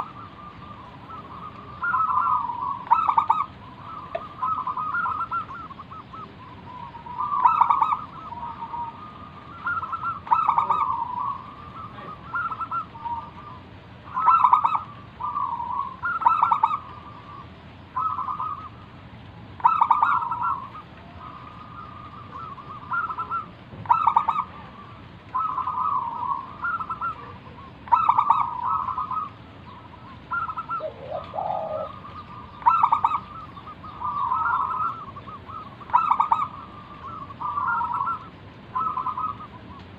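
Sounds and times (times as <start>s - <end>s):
dove cooing: 0.0s - 18.9s, 19.6s - 39.9s.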